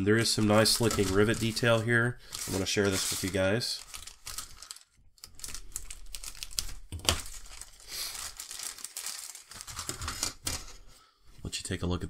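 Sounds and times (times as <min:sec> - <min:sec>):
plastic bag crinkling: 0:00.2 - 0:10.8.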